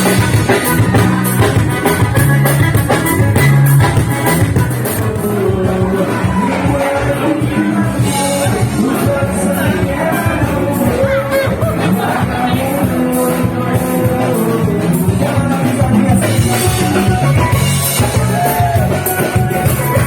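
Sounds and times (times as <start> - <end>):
drum kit beat: 0.0 - 20.0
live band music: 0.0 - 20.0.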